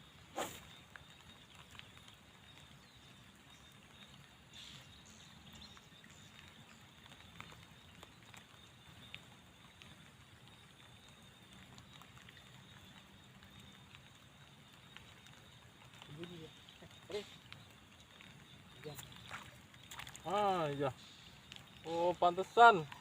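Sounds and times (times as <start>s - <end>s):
light drizzle pattering: 0.0s - 23.0s
single raindrops ticking: 0.1s - 4.4s, 5.0s - 23.0s.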